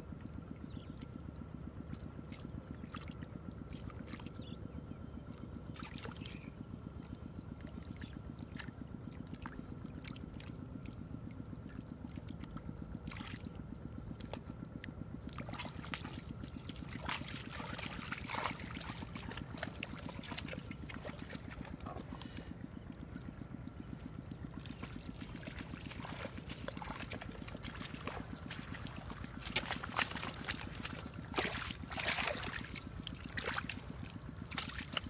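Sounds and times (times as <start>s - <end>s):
small engine running: 0.0s - 35.0s
water splashing and trickling: 1.8s - 4.4s, 5.2s - 35.0s.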